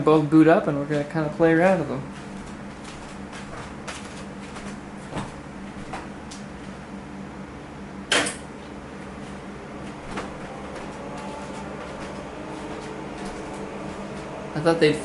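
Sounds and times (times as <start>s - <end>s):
computer equipment humming: 0.0s - 15.0s.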